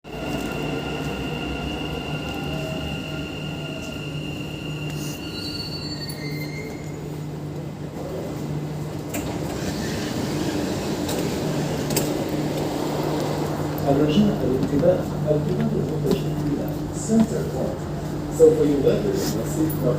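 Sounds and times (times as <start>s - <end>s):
train moving: 0.1s - 19.9s.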